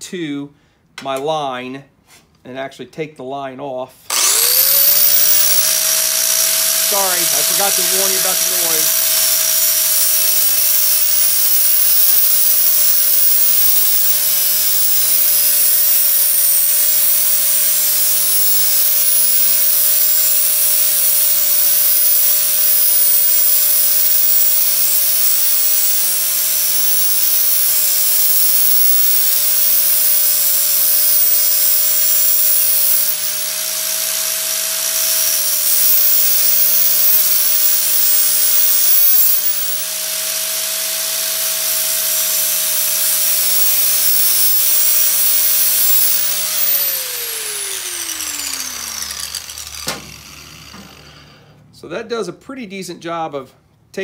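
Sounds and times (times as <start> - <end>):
angle grinder sanding metal: 4.1 - 51.5.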